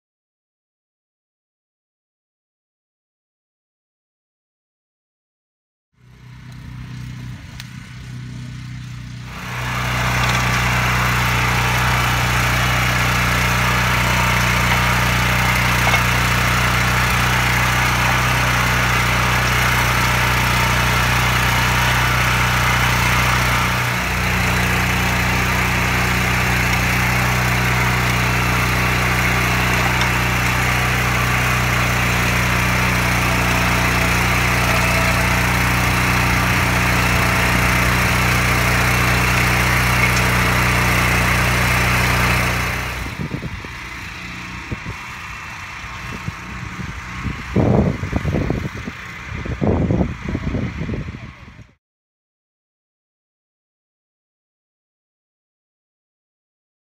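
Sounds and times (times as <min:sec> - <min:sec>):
walking tractor engine running: 0:06.0 - 0:51.7.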